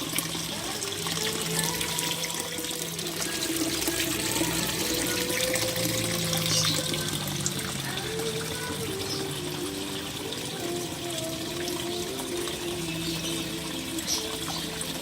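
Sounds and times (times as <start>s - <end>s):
background music: 0.0s - 15.0s
water running and splashing: 0.0s - 15.0s.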